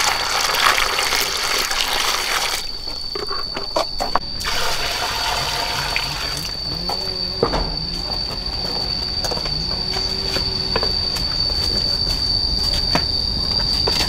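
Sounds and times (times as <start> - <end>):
insects droning high-pitched: 0.0 - 14.0.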